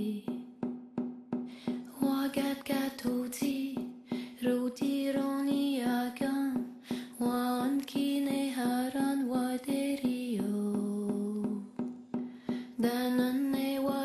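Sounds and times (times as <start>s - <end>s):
woman singing slow melody: 0.0s - 0.5s, 1.6s - 11.8s, 12.5s - 14.0s.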